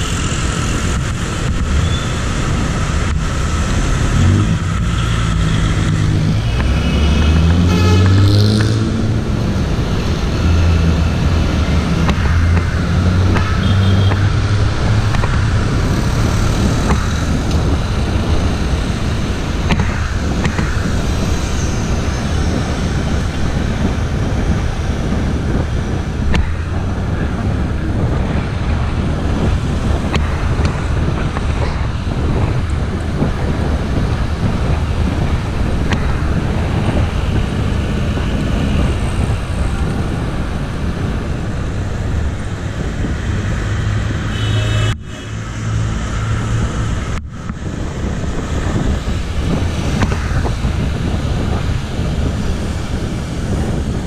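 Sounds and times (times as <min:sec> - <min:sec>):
city road traffic: 0:00.0 - 0:54.0
wind rushing over microphone: 0:00.0 - 0:54.0.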